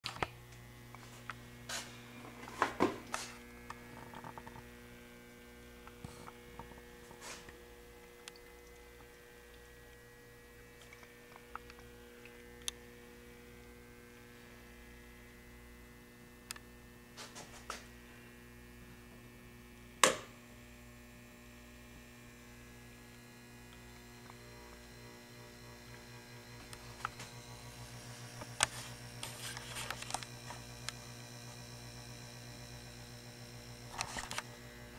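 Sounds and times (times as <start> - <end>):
electrical hum of mixer: 0.0 - 34.9.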